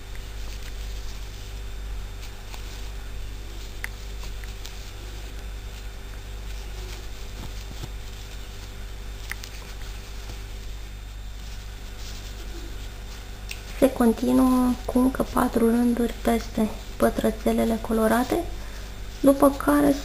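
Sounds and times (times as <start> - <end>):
low electrical hum: 0.0 - 20.0
yarn rustling: 0.0 - 20.0.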